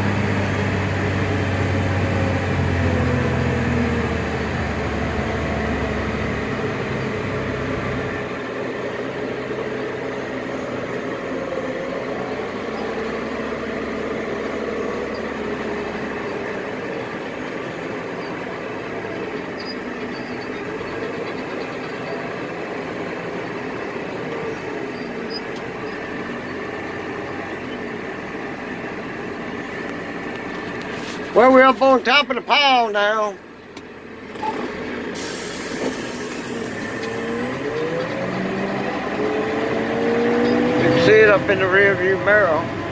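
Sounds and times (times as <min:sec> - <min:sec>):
truck diesel engine under load: 0:00.0 - 0:42.9.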